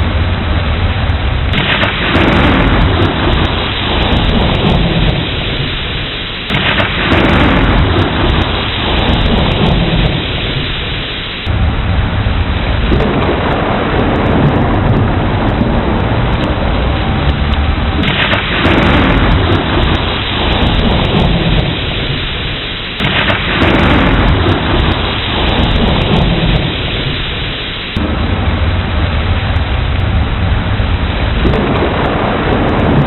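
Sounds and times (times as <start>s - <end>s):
low thunder rumble: 0.0s - 33.0s
steady rain falling: 0.0s - 33.0s.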